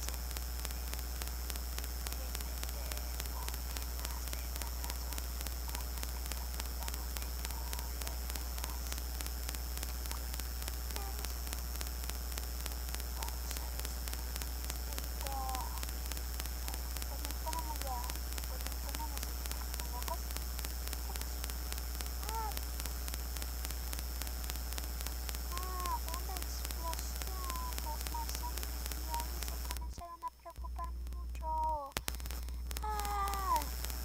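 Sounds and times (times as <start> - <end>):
low electrical hum: 0.0 - 34.0
microphone hiss and crackle: 0.0 - 34.0.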